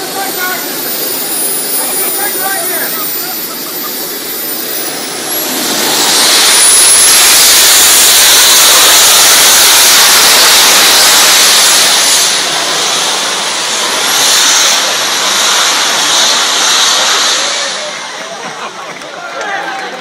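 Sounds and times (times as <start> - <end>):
high turbine whine: 0.0 - 19.0
jet turbine roaring: 0.0 - 20.0.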